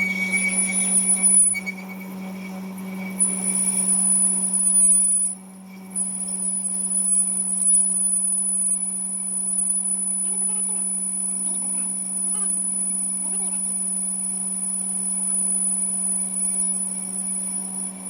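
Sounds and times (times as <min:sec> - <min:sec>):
high-pitched whine: 0:00.0 - 0:18.0
machine hum: 0:00.0 - 0:18.0.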